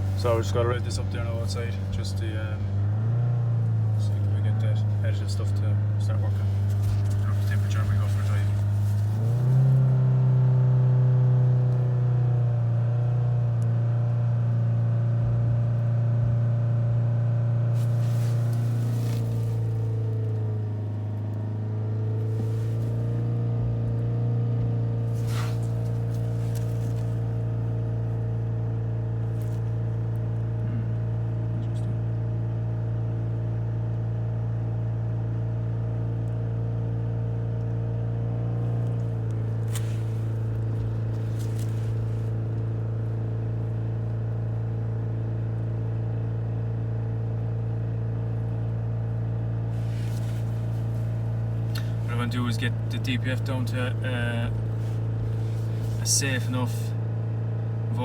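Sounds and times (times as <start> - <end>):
diesel engine revving: 0.0 - 45.0, 47.3 - 58.0.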